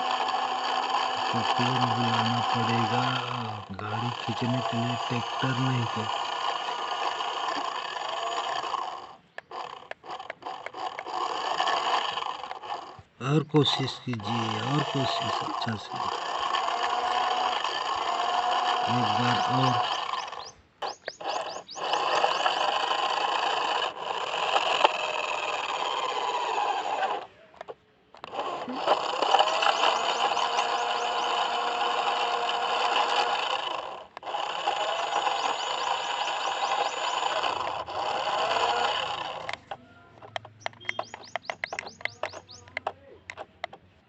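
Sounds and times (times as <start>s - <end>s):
toy car electric motor whirring: 0.0s - 43.8s.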